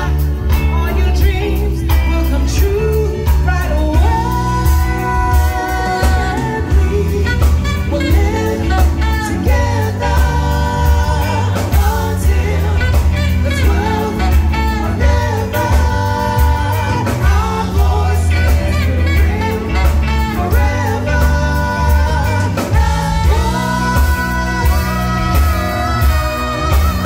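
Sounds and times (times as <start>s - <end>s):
live band playing: 0.0s - 27.0s
strong bass line: 0.0s - 27.0s
vocalists singing together: 1.2s - 27.0s.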